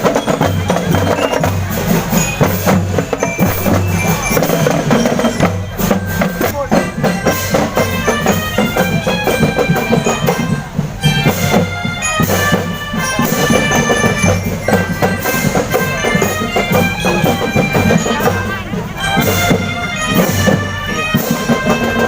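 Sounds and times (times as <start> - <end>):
drums beating: 0.0 - 22.0
held wind instrument notes: 0.0 - 22.0.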